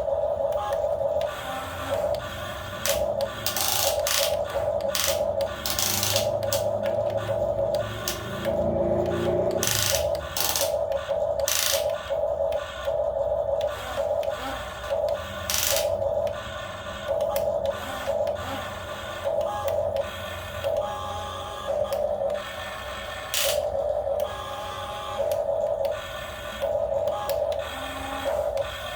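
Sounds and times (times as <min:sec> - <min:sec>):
small electric motor whining: 0:00.0 - 0:28.9.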